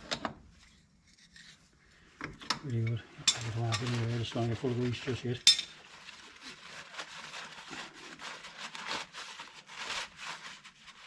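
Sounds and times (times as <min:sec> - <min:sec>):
hands rustling and scraping parts: 0:00.0 - 0:11.0.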